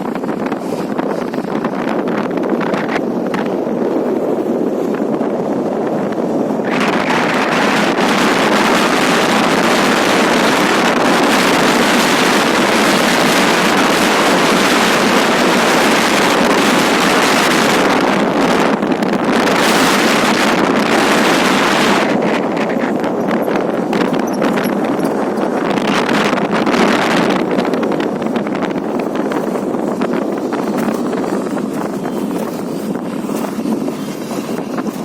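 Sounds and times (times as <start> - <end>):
airliner engines rushing: 0.0 - 35.0.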